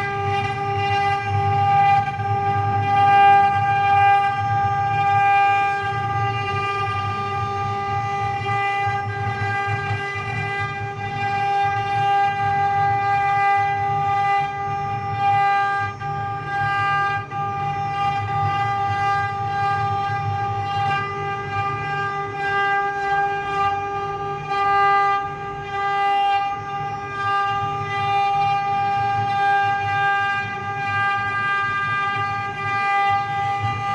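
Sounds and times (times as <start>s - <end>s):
spindle high-pitched whine: 0.0s - 33.9s.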